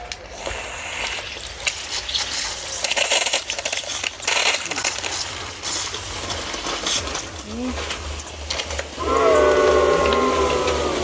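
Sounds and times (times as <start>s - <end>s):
water and air sputtering through hose: 0.0s - 11.0s.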